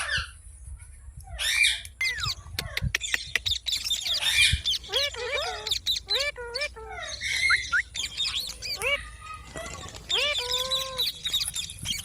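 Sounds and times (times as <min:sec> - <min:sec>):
parrot chirping and squawking: 0:01.3 - 0:12.0.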